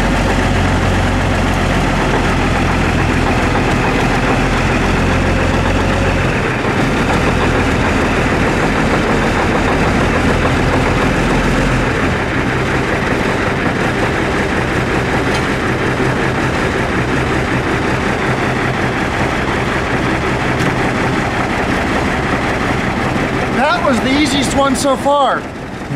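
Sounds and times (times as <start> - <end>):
truck diesel engine idling: 0.0 - 25.9.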